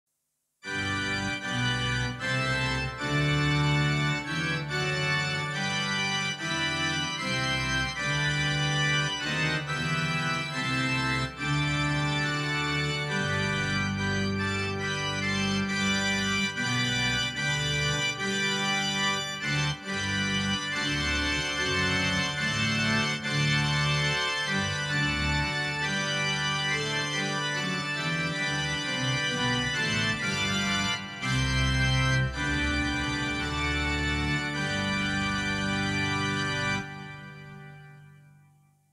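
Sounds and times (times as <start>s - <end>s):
synthesizer pipe organ chords: 0.6s - 38.6s.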